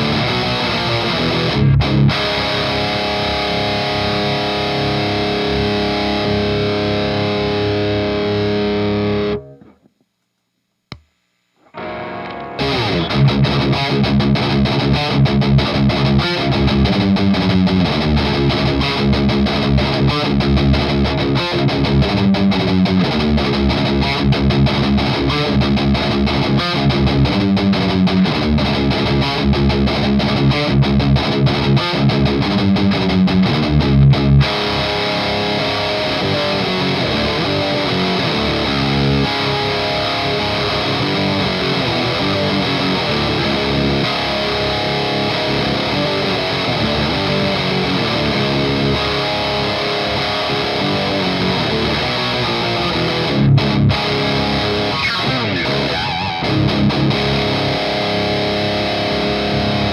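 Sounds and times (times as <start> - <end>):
distorted electric guitar riff: 0.0 - 10.0, 11.6 - 59.9.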